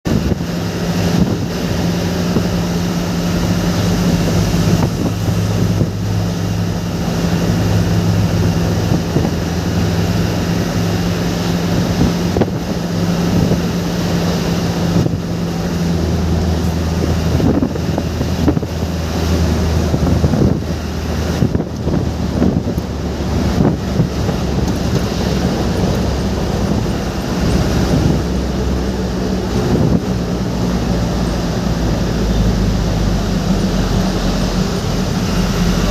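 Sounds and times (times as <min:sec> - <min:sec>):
rain and tyre noise: 0:00.0 - 0:35.9
vehicle engine hum: 0:00.0 - 0:35.9.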